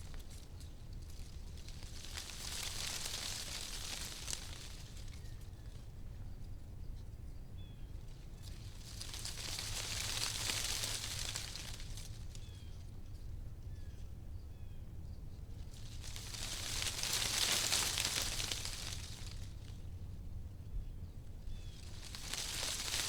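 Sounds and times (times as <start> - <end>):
wind rustling tree leaves: 0.0 - 6.2, 7.6 - 13.7, 15.3 - 23.0.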